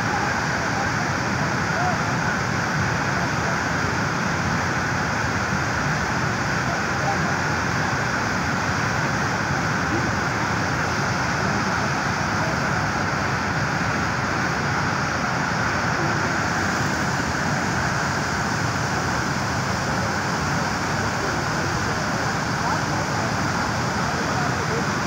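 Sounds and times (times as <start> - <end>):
flood water rushing over rocks: 0.0 - 25.0.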